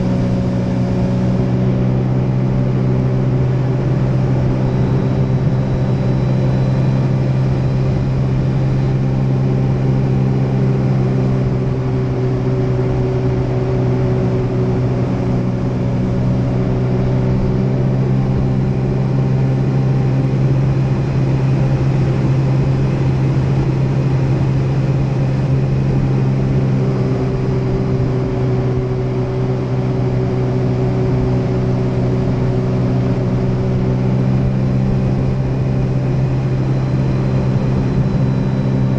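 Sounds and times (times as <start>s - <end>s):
jet ski engine running: 0.0s - 38.9s.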